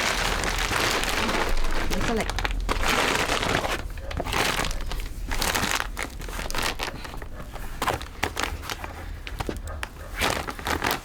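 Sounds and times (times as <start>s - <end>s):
dry material rustling and crackling: 0.0s - 11.0s.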